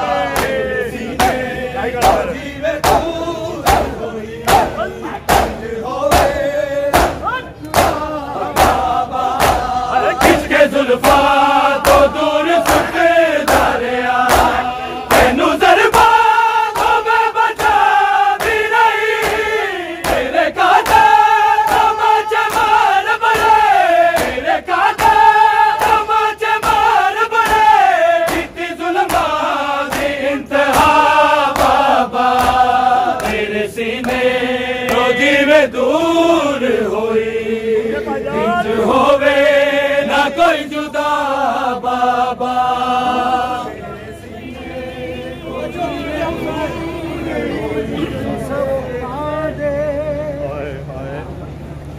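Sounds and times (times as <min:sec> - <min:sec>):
men chanting in unison: 0:00.0 - 0:50.6.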